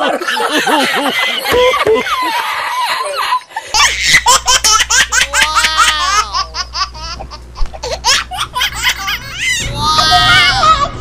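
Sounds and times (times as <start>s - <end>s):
baby laughing: 0.0s - 11.0s
low steady hum: 0.0s - 11.0s.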